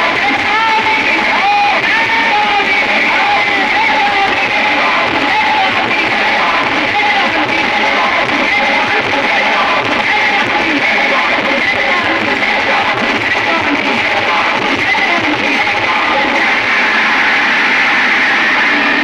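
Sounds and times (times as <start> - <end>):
loud music: 0.0 - 19.0.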